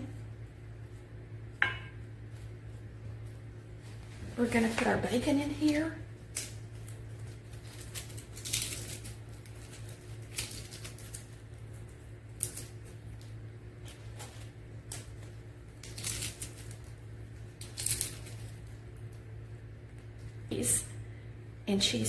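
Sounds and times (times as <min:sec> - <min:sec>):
bacon crackling crumbled by hand: 0:00.0 - 0:20.9
steady low hum: 0:00.0 - 0:22.0.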